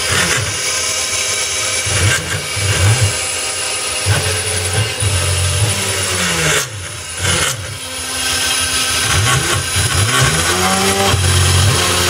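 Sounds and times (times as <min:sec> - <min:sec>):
drive motors whining: 0:00.0 - 0:12.0
router spindle high whine: 0:00.0 - 0:12.0.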